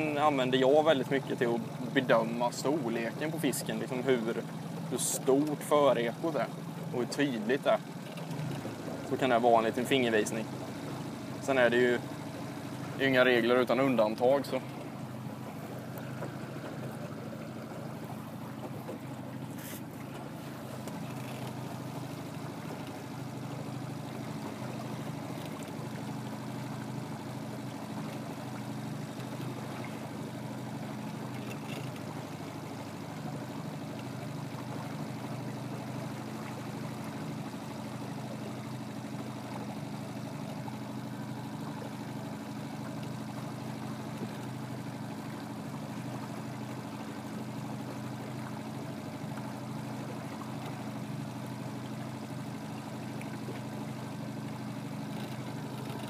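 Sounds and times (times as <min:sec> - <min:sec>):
boat motor humming: 0:00.0 - 0:56.0
water washing around boat: 0:00.0 - 0:56.0.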